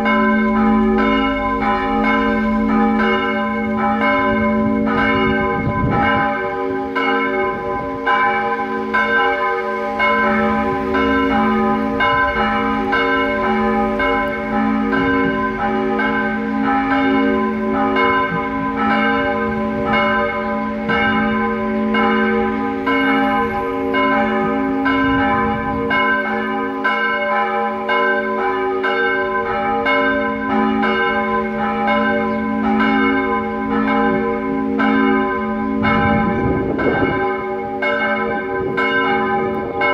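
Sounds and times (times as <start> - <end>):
church bells ringing in a peal: 0.0 - 39.9.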